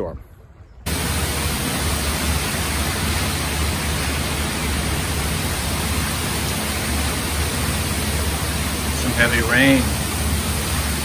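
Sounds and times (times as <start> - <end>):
heavy rain hissing: 0.9 - 11.0.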